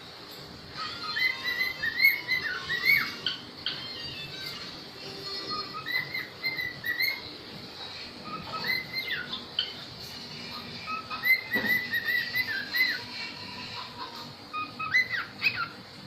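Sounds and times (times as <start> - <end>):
parrots chirping and whistling: 0.3 - 16.0.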